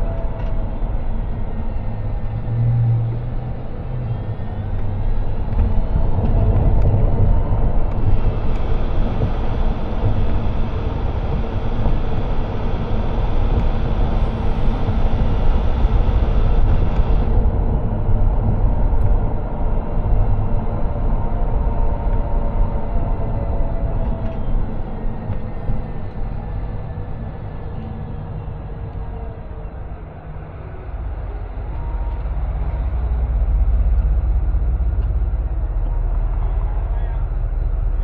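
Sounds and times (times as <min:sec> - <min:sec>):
car road and engine rumble: 0:00.0 - 0:38.0.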